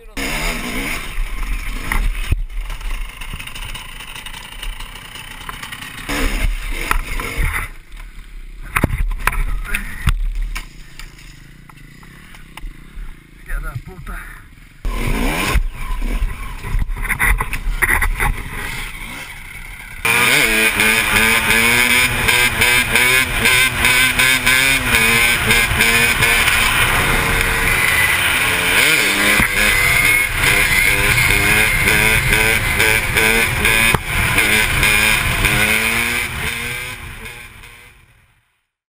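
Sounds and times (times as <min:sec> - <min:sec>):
dirt bike engine revving: 0:00.0 - 0:07.9, 0:08.6 - 0:38.2
engine clatter: 0:00.8 - 0:07.7, 0:11.0 - 0:37.9.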